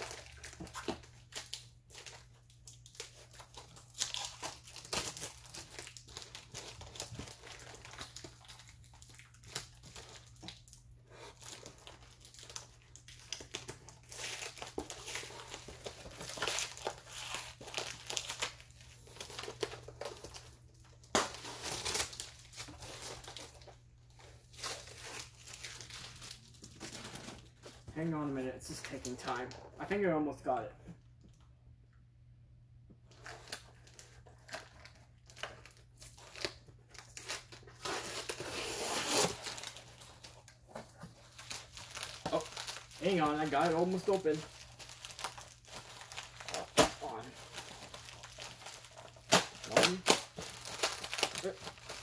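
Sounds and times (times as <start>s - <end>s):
package crinkling and tearing: 0.0s - 28.0s, 33.1s - 52.0s.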